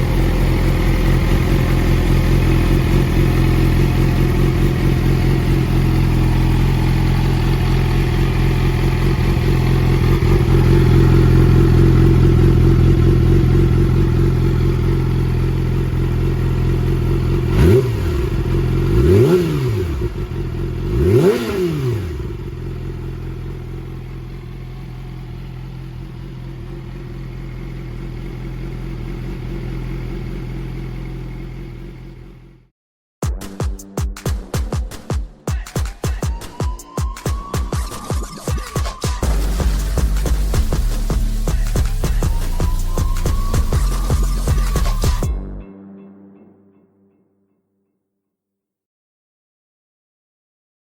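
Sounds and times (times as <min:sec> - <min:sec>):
motorcycle engine idling and revving: 0:00.0 - 0:32.7, 0:37.2 - 0:45.4.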